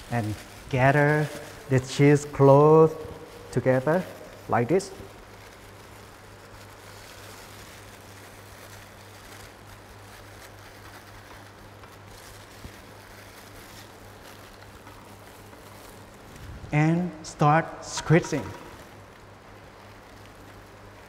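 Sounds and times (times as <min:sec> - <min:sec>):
faint hiss: 0:00.0 - 0:11.4, 0:12.2 - 0:21.0.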